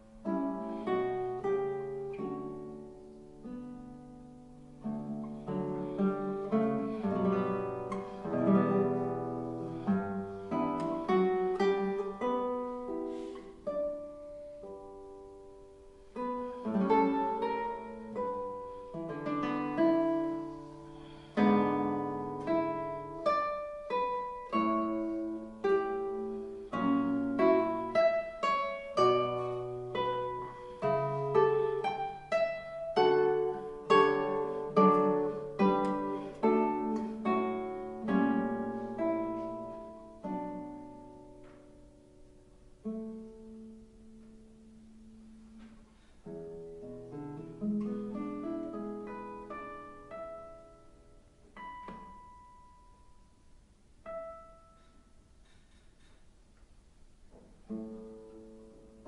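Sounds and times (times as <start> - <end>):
solo classical guitar: 0.0 - 59.0.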